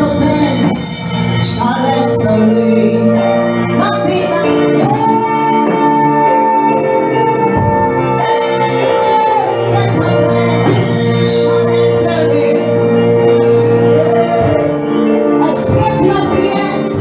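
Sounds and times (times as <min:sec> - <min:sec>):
person singing wavering notes: 0:00.0 - 0:17.0
sustained worship music chords: 0:00.0 - 0:17.0.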